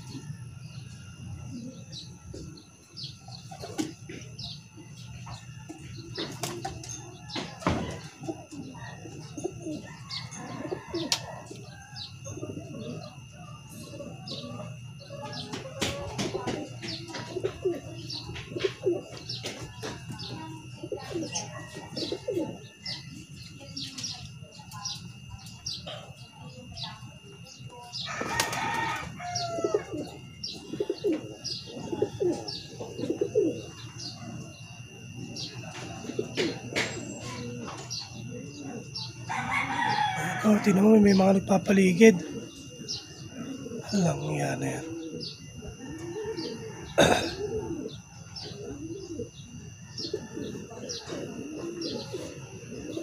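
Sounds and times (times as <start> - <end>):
pigeons cooing: 0.0 - 53.0
small birds chirping: 0.0 - 53.0.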